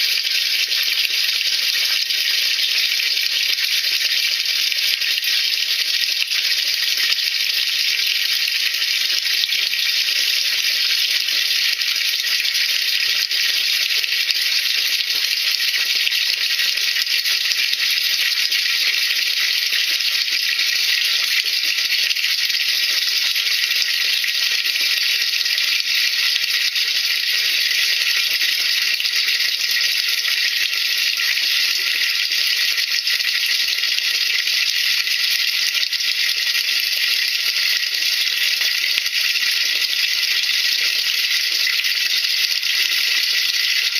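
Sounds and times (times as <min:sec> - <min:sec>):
solution bubbling with crackling fizz: 0:00.0 - 0:43.9.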